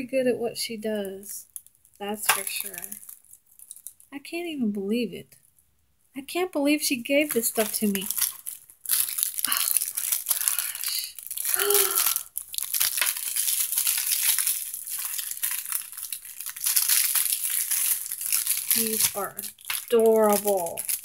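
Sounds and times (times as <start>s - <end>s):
crinkly plastic packaging rustling: 1.0s - 4.2s, 7.2s - 21.0s.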